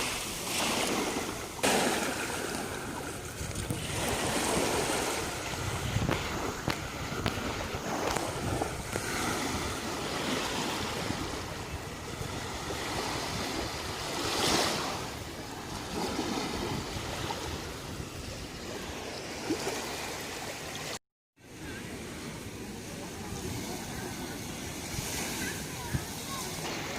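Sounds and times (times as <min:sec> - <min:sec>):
sea waves washing onto beach: 0:00.0 - 0:26.9.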